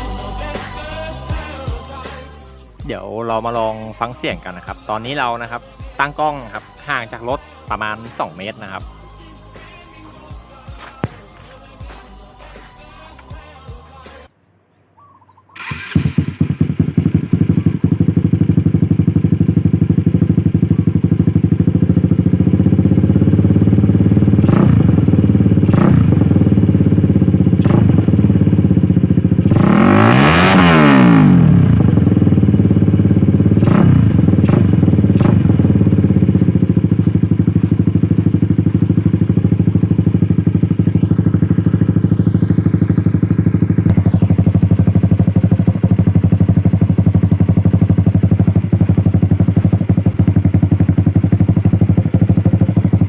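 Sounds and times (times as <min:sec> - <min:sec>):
motorcycle engine idling and revving: 0:00.0 - 0:14.2, 0:15.6 - 0:53.0.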